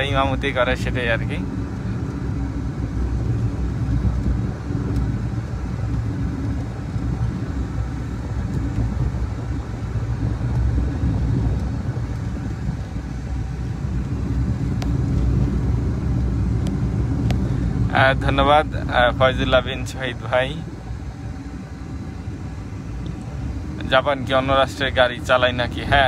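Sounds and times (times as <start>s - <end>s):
car driving rumble from inside: 0.0s - 26.0s.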